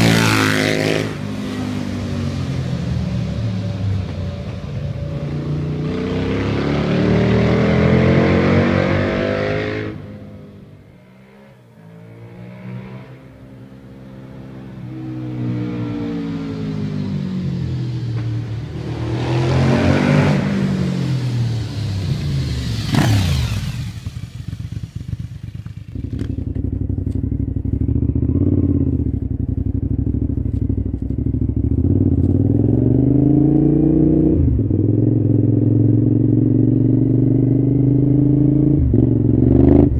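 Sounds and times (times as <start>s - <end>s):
motorcycle accelerating: 0.0s - 39.9s
motorcycle engine while riding: 0.0s - 39.9s.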